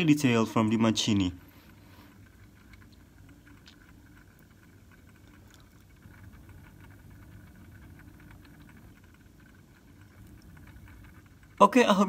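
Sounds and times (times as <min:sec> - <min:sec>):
turntable motor hum: 0:00.0 - 0:12.0.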